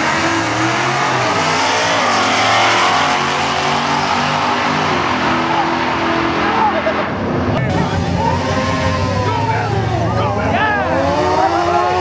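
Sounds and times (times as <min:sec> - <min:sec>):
racing cars accelerating hard: 0:00.0 - 0:12.0.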